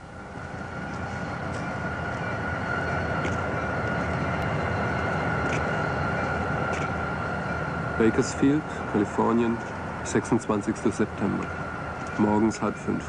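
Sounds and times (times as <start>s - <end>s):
freight train rumble: 0.0s - 13.0s
thin steady whine: 0.0s - 13.0s.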